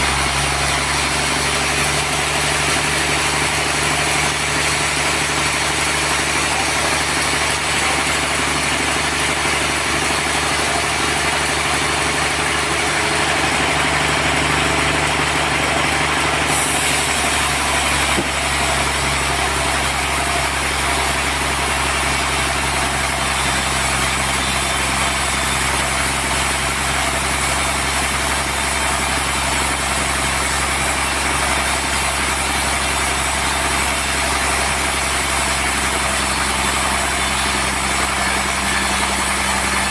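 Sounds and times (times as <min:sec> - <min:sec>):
sawmill machinery sawing log: 0:00.0 - 0:39.9.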